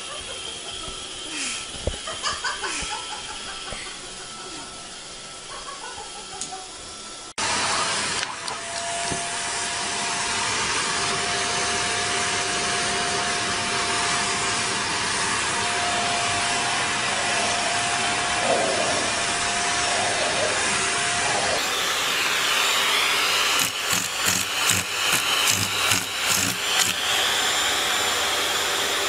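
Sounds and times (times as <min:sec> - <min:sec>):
vacuum cleaner whining: 0:00.0 - 0:29.0.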